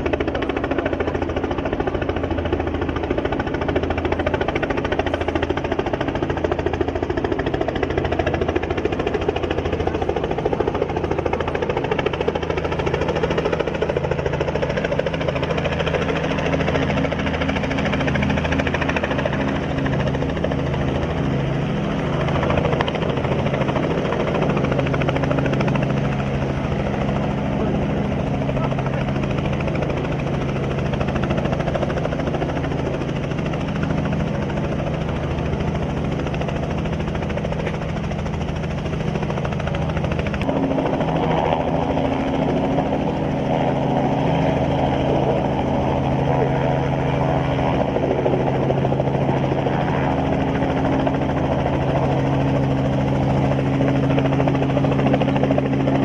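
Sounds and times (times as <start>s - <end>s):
helicopter engine drone: 0.0s - 56.0s
helicopter rotor beating: 0.0s - 56.0s.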